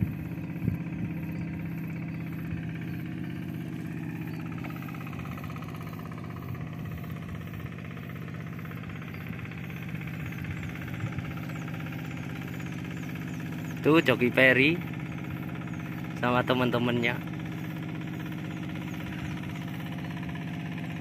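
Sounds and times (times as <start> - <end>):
small engine puttering: 0.0 - 21.0.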